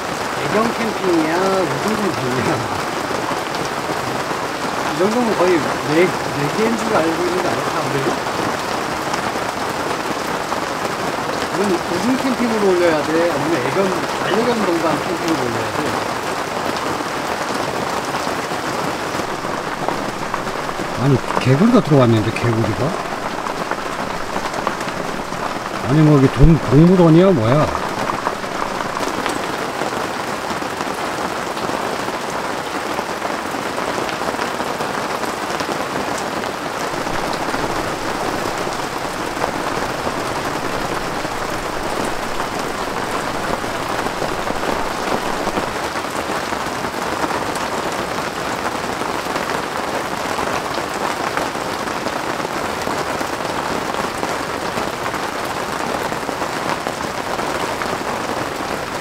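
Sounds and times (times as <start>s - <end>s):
rain on a canvas tent: 0.0s - 59.0s.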